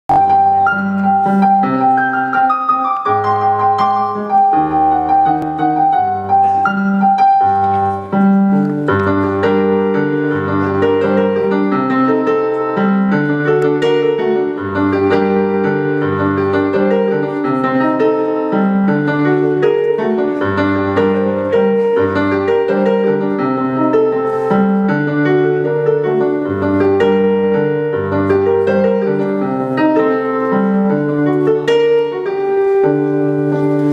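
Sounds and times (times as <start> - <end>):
piano playing: 0.0 - 33.9.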